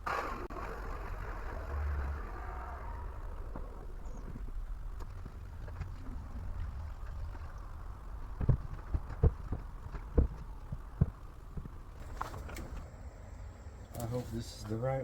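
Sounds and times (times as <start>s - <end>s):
dull low thumps: 0.0s - 12.2s
steady low rumble: 0.0s - 14.0s.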